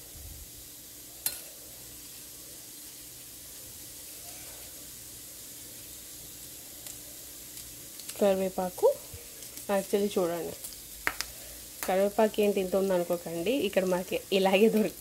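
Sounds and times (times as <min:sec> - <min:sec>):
hot oil sizzling in a frying pan: 0:00.0 - 0:15.0.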